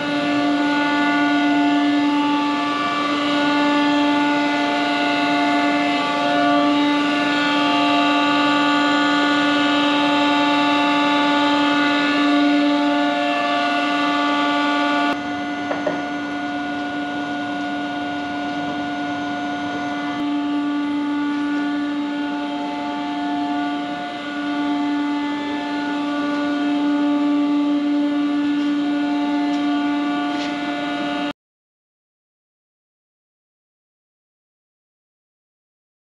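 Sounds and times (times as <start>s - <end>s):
hydraulic pump whining: 0.0s - 31.3s.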